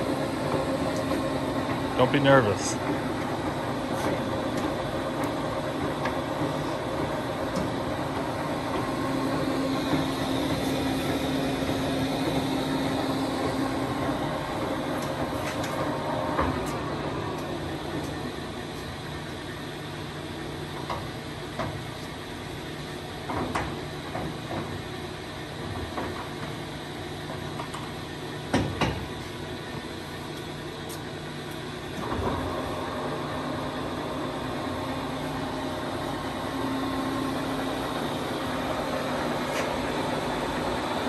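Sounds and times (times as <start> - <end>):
lathe mechanical hum: 0.0 - 41.0.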